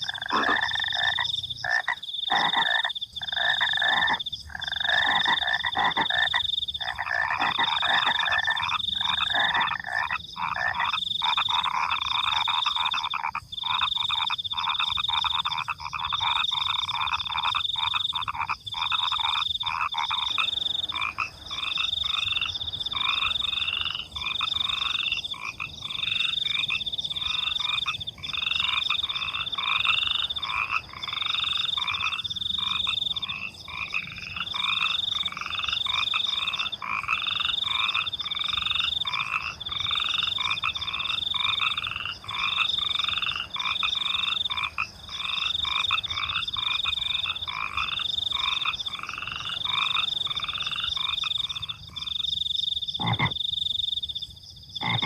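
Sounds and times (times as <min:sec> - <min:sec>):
crickets trilling: 0:00.0 - 0:55.0
frogs croaking: 0:00.0 - 0:55.0.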